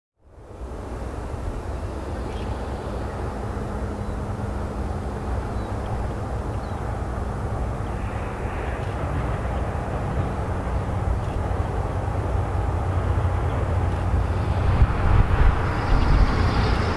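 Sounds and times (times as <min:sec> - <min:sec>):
diesel locomotive rumble: 0:00.5 - 0:16.9.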